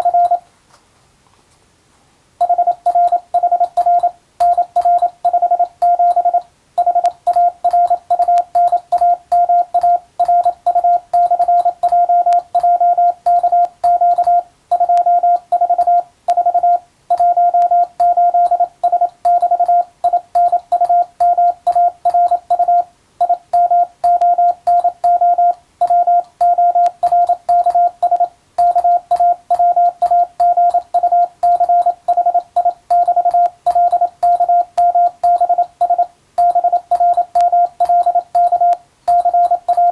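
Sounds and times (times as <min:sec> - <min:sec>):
morse code tone: 0:00.0 - 0:00.4, 0:02.4 - 0:39.9.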